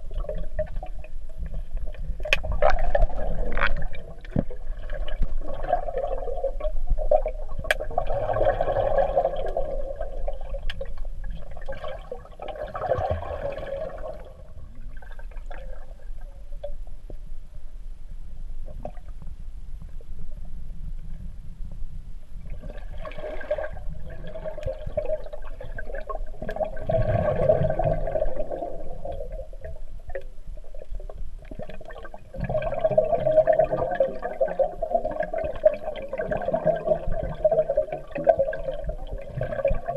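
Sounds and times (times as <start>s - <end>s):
underwater churning and bubbling: 0.0s - 39.9s.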